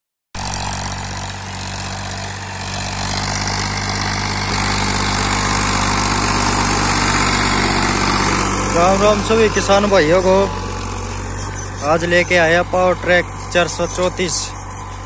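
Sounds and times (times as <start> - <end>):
tractor diesel engine running: 0.4 - 15.0.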